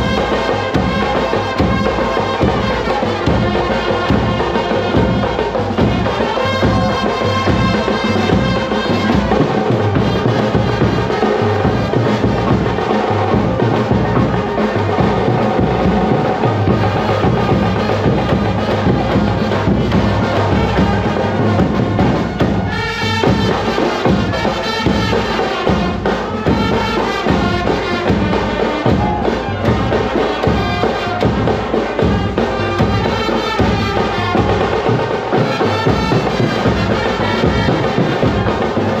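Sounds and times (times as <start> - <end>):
bass drum: 0.0 - 39.0
brass horns melody: 0.0 - 39.0
side drums beating: 0.0 - 39.0.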